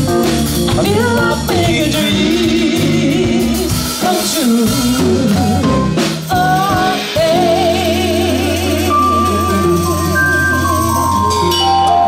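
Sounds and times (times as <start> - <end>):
jazz band playing: 0.0 - 12.0
person singing with vibrato: 0.8 - 12.0.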